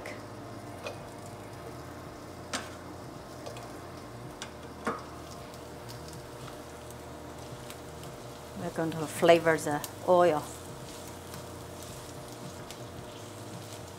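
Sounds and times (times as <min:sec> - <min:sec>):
food sizzling in hot oil: 0:00.0 - 0:13.9
sharp oil crackles: 0:00.1 - 0:13.9.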